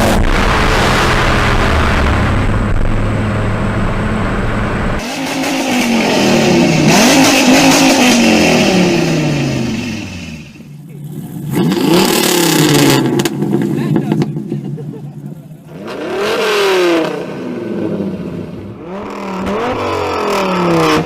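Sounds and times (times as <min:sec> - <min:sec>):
sports car engine revving: 0:00.0 - 0:21.0.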